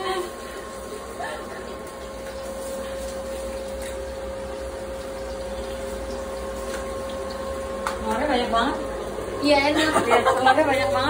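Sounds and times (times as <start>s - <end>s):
eggs sizzling in a wok: 0.0s - 9.9s.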